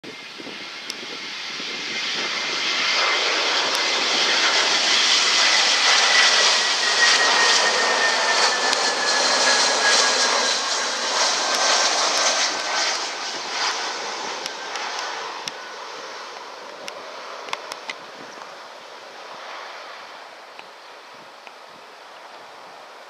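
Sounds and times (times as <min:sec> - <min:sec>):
high engine whine: 0:00.0 - 0:21.1
jet airliner passing low: 0:00.0 - 0:23.0.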